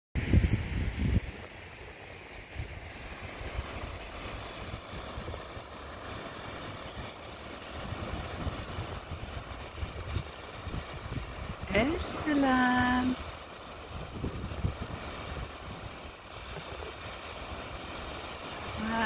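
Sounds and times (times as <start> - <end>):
waves breaking on rocky shore: 0.2 - 19.0
wind buffeting microphone: 0.2 - 19.0.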